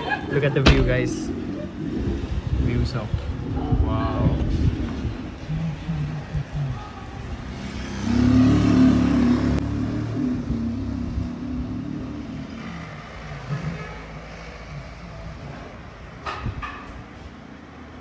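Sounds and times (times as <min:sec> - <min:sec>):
vehicle engine: 0:00.0 - 0:18.0.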